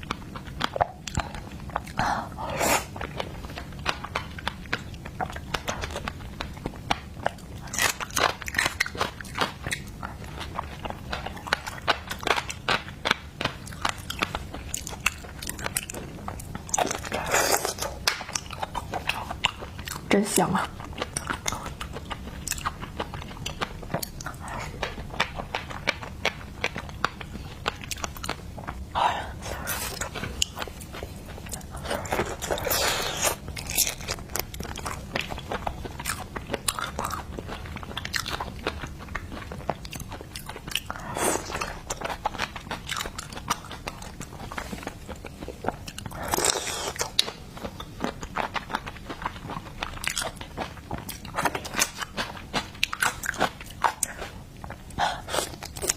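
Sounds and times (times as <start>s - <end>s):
crunching and wet chewing: 0.0s - 55.9s.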